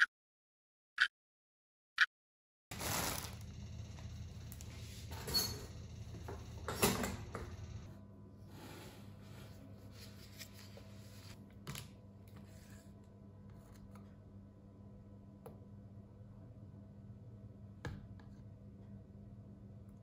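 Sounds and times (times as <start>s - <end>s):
low room hum: 2.7s - 20.0s.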